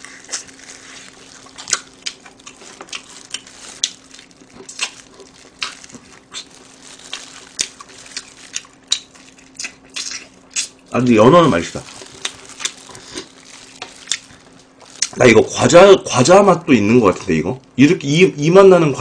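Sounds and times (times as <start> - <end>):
chewing fried chicken: 0.0 - 16.2.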